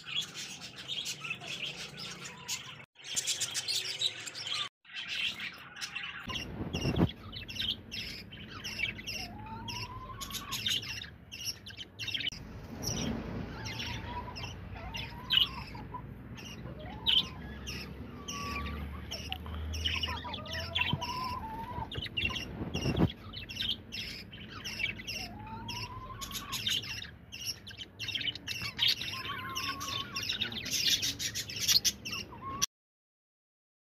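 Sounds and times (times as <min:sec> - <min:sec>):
small birds chirping: 0:00.0 - 0:32.7.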